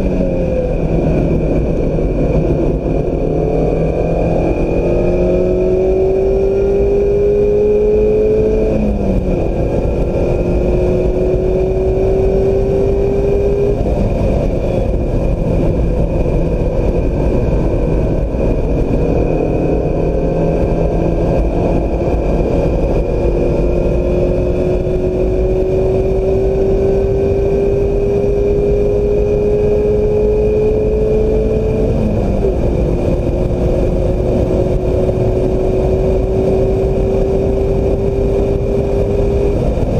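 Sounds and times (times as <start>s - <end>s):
car engine revving hard: 0.0s - 39.9s
steady rush of noise: 0.0s - 39.9s.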